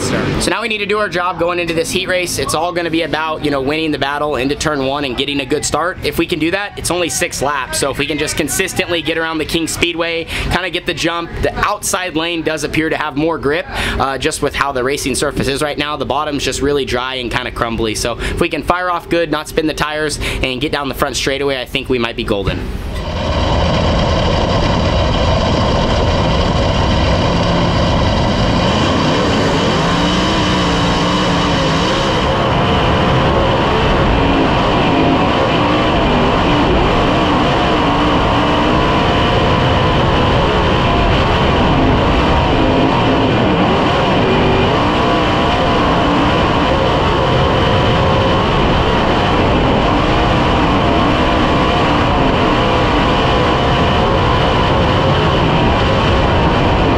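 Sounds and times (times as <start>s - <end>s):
race car engine running hard: 0.0s - 56.9s.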